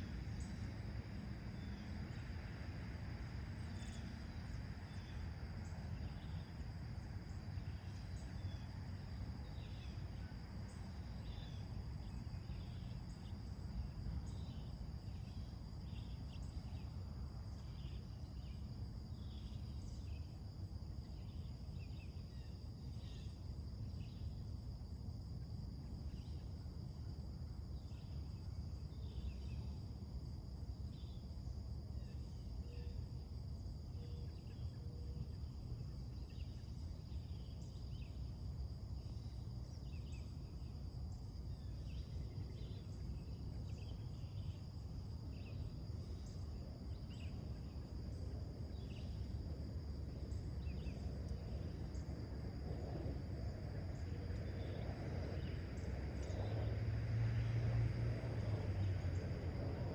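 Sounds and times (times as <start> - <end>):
insect trill: 0.0 - 59.9.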